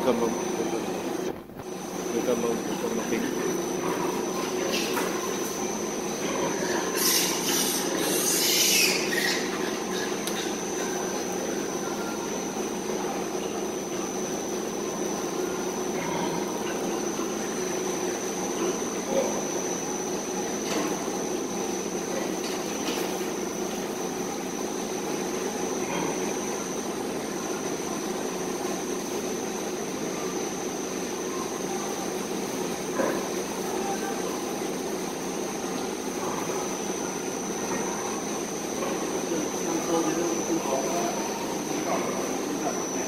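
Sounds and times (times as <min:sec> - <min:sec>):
mechanical hum with high whine: 0:00.0 - 0:43.0.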